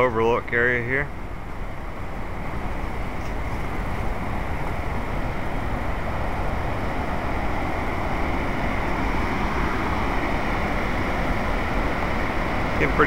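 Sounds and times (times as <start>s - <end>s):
whitewater rapids roaring: 1.2s - 13.0s.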